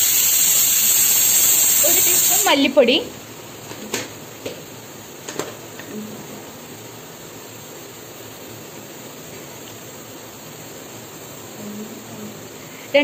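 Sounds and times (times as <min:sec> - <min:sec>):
onions sizzling in pan: 0:00.0 - 0:13.0.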